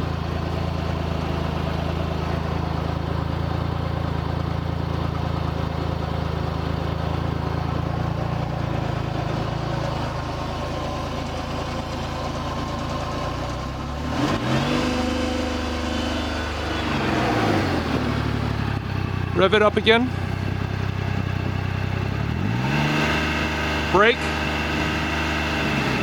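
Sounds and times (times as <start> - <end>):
engine revving: 0.0 - 26.0
utility vehicle engine idling: 0.0 - 26.0.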